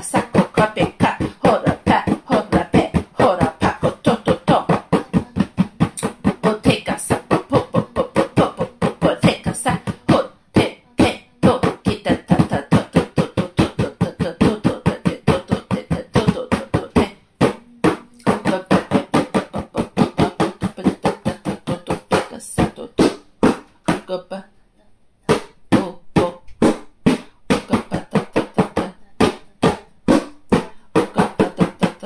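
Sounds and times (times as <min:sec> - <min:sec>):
person speaking rapid syllables: 0:00.0 - 0:23.1, 0:25.3 - 0:26.5, 0:27.5 - 0:32.0.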